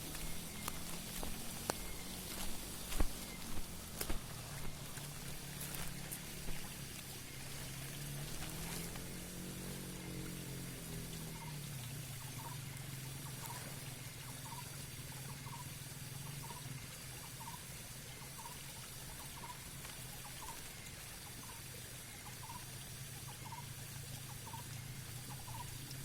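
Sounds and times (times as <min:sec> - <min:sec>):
low motor hum: 0:00.0 - 0:26.0
water pouring and trickling: 0:00.0 - 0:26.0.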